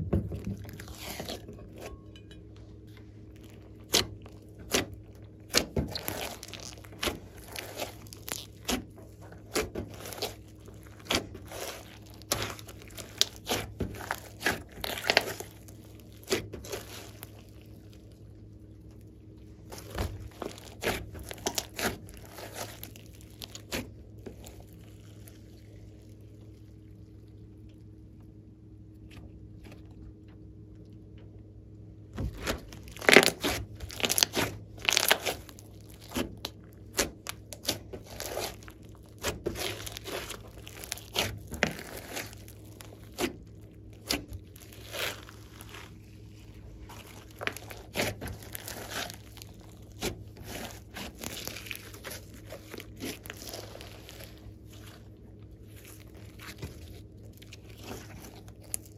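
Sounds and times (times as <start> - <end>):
slime squelching and popping: 2.9 - 27.1, 32.2 - 58.9.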